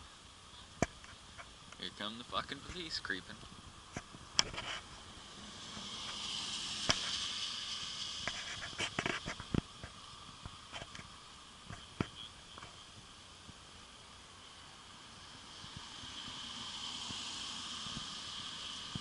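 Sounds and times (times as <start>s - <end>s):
slow-moving vehicle: 0.0s - 19.0s.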